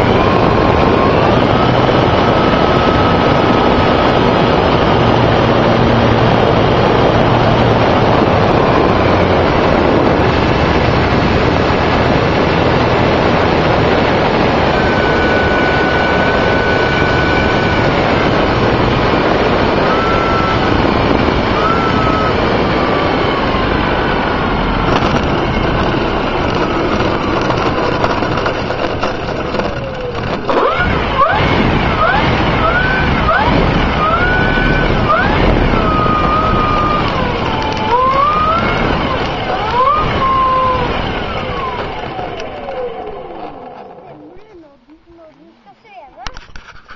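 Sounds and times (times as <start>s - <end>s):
model airplane motor whine: 0.0s - 44.5s
wind rushing over camera: 0.0s - 46.9s.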